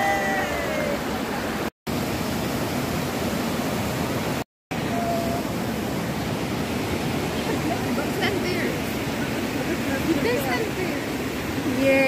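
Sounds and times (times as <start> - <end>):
creek water rushing: 0.0 - 12.0
waterfall tumbling over rocks: 0.0 - 12.0.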